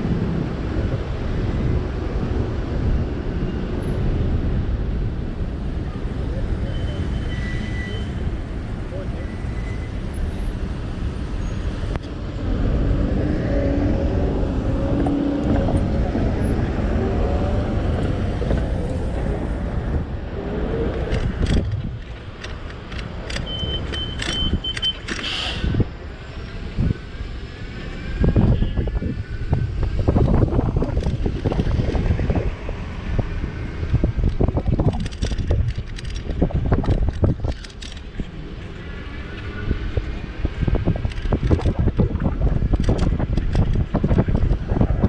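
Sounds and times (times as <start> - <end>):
wind rumbling on microphone: 0.0 - 6.6, 9.8 - 23.3, 25.3 - 45.0
cars passing: 0.0 - 45.0
street traffic: 0.0 - 45.0.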